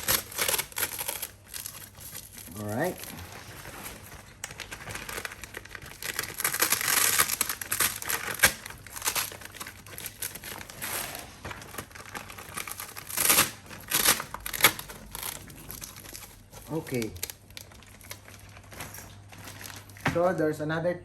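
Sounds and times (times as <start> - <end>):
delivery bag rustling: 0.0 - 20.6.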